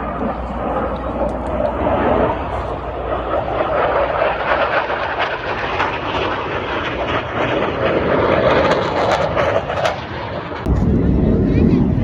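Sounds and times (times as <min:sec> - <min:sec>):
airplane engine rushing: 0:00.0 - 0:12.0.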